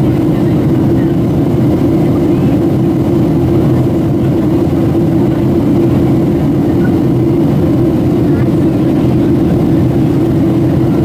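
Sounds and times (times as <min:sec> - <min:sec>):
airliner engines droning in cabin: 0:00.0 - 0:11.0.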